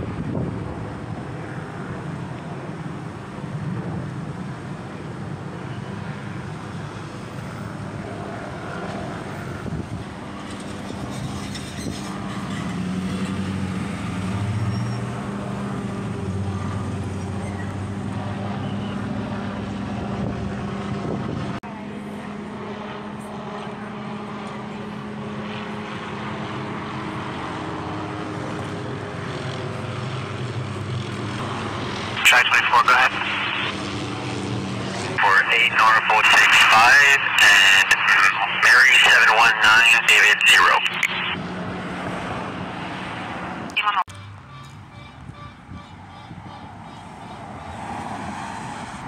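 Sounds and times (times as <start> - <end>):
helicopter drone overhead: 0.0 - 49.0.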